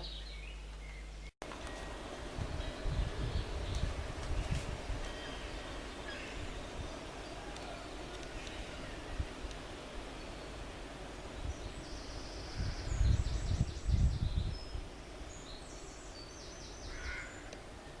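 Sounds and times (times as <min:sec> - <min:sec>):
outdoor background noise: 0:00.0 - 0:18.0
small bird singing: 0:00.0 - 0:18.0.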